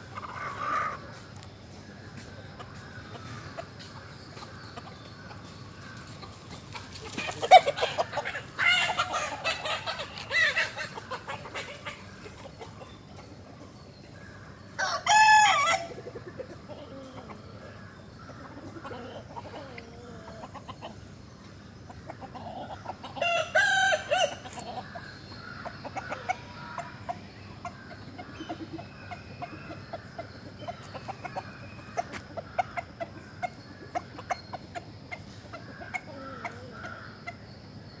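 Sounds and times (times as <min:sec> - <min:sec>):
hens clucking: 0:00.0 - 0:38.0.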